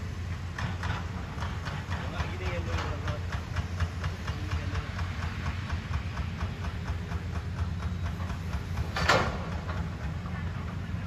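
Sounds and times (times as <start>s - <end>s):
diesel excavator engines rumbling: 0.0s - 11.0s.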